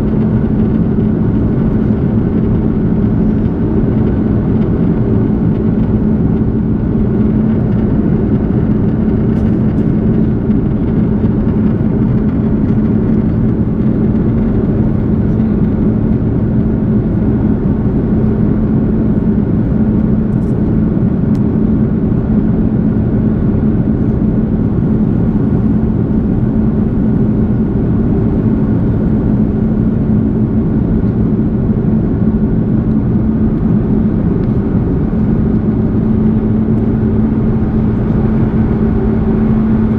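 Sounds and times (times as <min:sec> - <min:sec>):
airliner cabin engine hum: 0:00.0 - 0:39.9.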